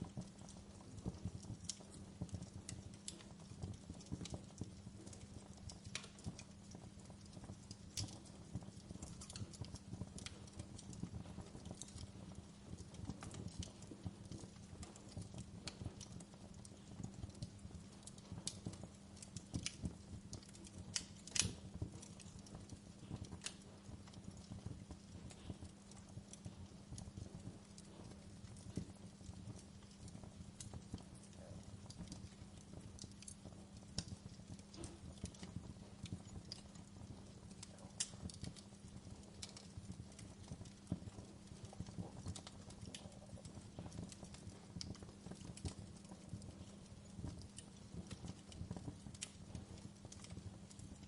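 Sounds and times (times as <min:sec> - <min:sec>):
low fire rumble: 0:00.0 - 0:51.0
wood fire crackling and popping: 0:00.0 - 0:51.0.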